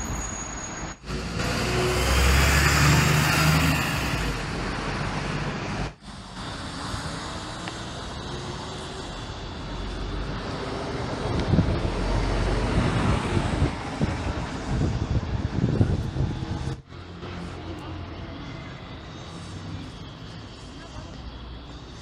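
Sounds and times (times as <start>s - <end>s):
bus pulling away: 0.0s - 20.7s
bus passing: 0.0s - 22.0s.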